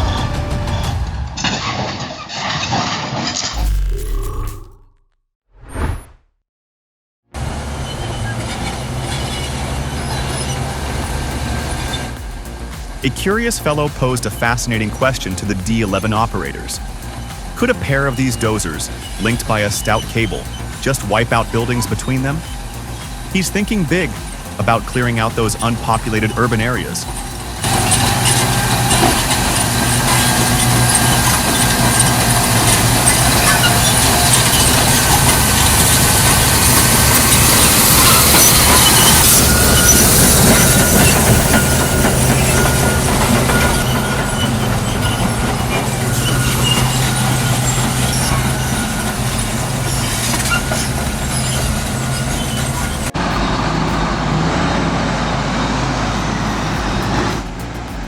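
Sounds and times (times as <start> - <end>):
bulldozer diesel engine running: 0.0 - 1.4, 7.4 - 58.0
steel tracks squealing and clanking: 0.0 - 3.6, 7.4 - 57.8.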